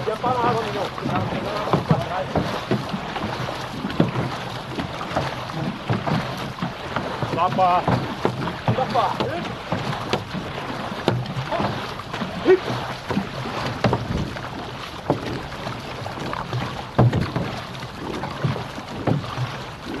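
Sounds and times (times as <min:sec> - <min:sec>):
paddles splashing into water: 0:00.0 - 0:20.0
water rushing along hull: 0:00.0 - 0:20.0.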